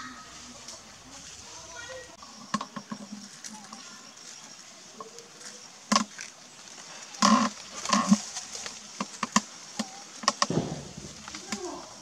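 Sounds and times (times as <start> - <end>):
rustling dry leaves: 0.0 - 12.0.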